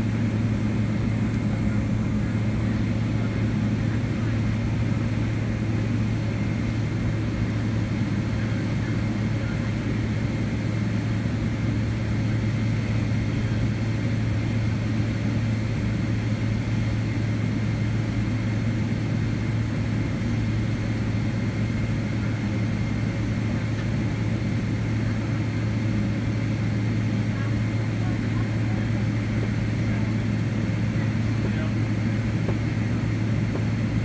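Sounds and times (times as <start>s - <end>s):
airplane cabin engine hum: 0.0s - 34.0s
faint high engine whine: 0.0s - 34.0s.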